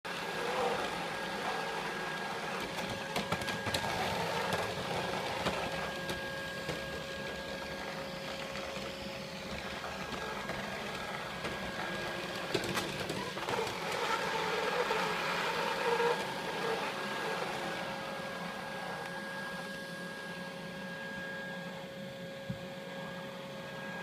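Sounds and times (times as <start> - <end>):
robot vacuum humming: 0.1 - 24.0.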